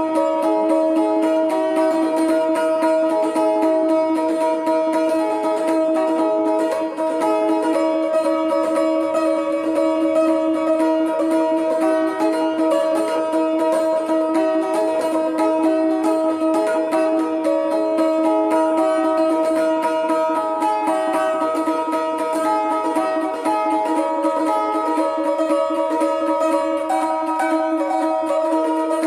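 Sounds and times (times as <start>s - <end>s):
plucked lute melody: 0.0s - 29.0s.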